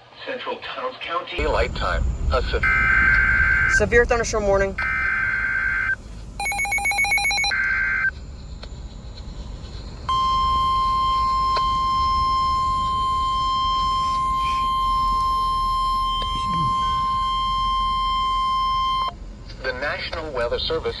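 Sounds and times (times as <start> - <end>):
trilling electronic beep: 1.4 - 9.4, 10.0 - 19.2
steady warning alarm tone: 1.4 - 20.0.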